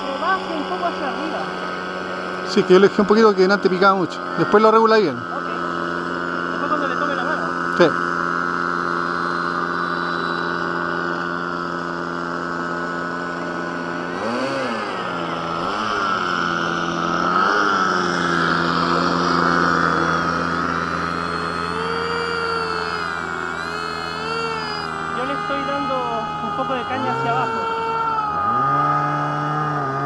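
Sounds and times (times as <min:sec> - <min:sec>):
model plane engine buzzing: 0:00.0 - 0:30.0.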